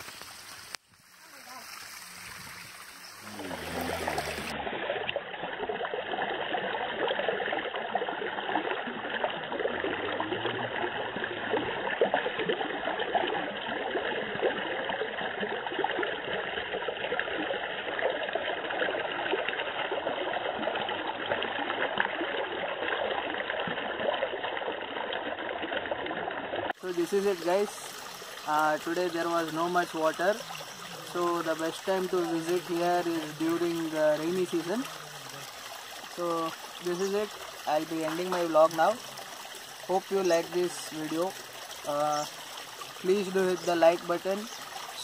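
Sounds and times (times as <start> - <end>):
water trickling over rocks: 0.0 - 45.0.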